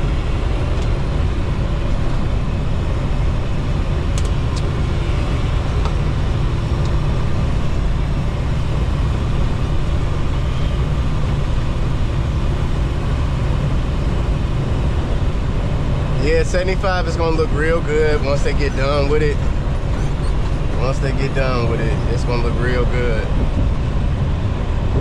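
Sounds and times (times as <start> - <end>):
truck engine and tyres rumbling: 0.0 - 25.0.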